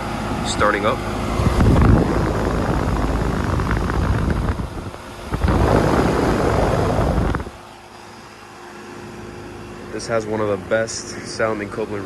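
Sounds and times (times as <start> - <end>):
air conditioner unit rumbling: 0.0 - 12.0.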